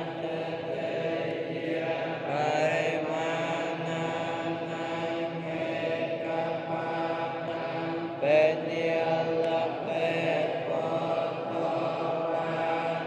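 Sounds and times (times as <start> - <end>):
droning chant of held notes: 0.0 - 13.0.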